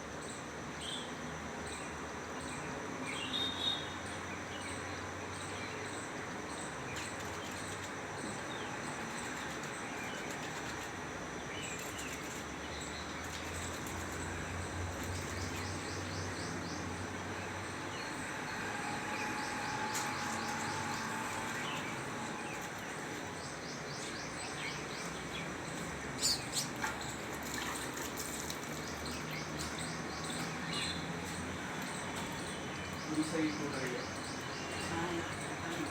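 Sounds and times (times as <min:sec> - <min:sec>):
outdoor background noise: 0:00.0 - 0:35.9
bird chirping trills: 0:03.1 - 0:35.9.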